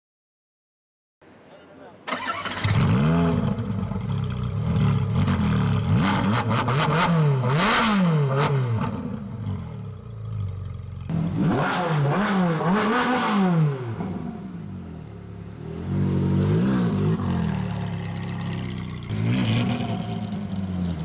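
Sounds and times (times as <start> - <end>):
car engine revving: 2.1 - 21.0.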